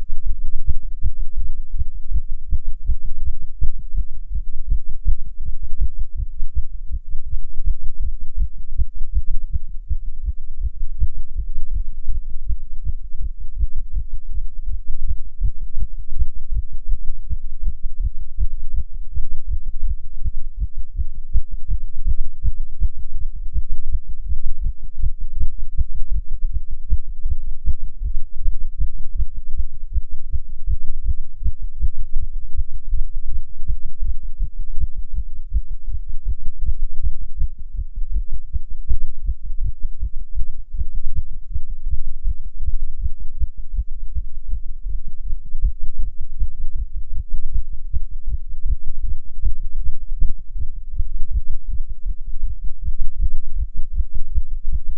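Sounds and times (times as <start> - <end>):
fast heartbeat thumps: 2.1 - 54.9.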